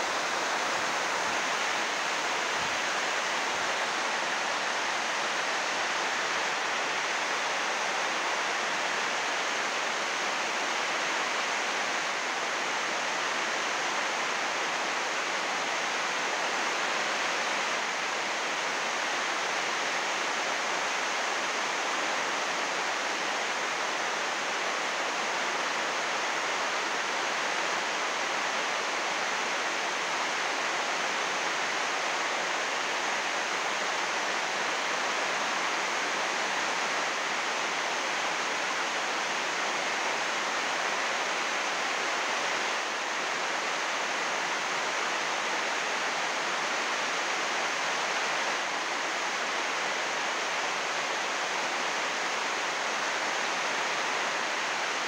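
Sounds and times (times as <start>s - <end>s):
heavy rain on plastic roof: 0.0s - 55.0s.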